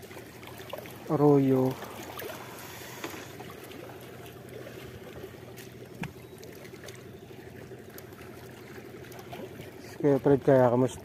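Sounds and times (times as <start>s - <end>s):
faint steady hum: 0.0s - 11.0s
small waves lapping against boat hull: 0.0s - 11.0s.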